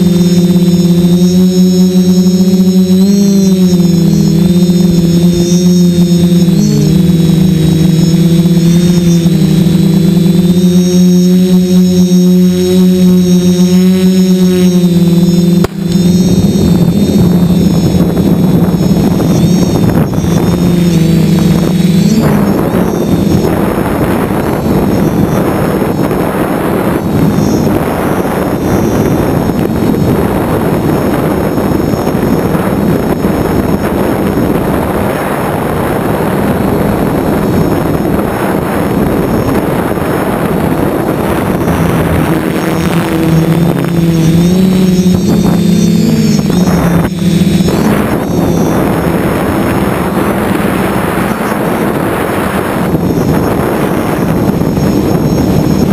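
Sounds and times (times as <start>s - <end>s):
quadcopter motors whirring: 0.0s - 55.9s
steady rushing noise: 0.0s - 55.9s.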